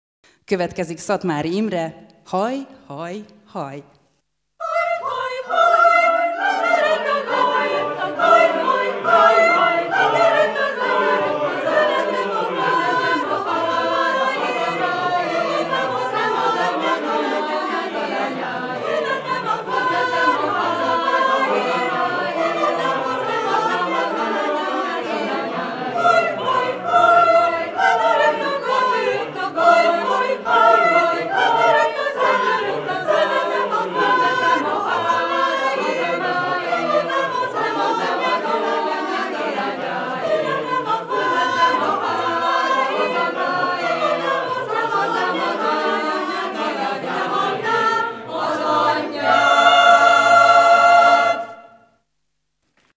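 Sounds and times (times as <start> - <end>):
choir singing folk songs: 4.6 - 51.9.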